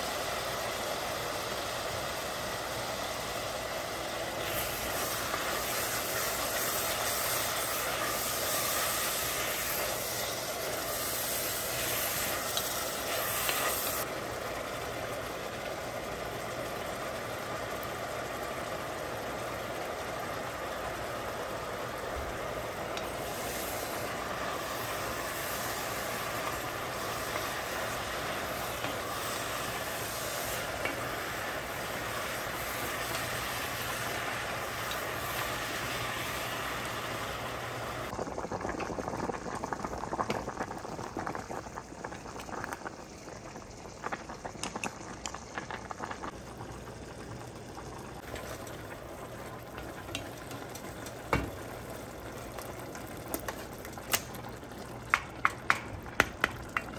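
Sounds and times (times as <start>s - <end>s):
vegetables sizzling in oil: 0.0s - 56.9s.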